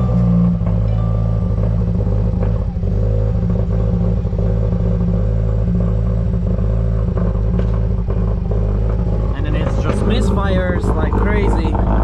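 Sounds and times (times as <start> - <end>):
engine idling rough: 0.0 - 12.0.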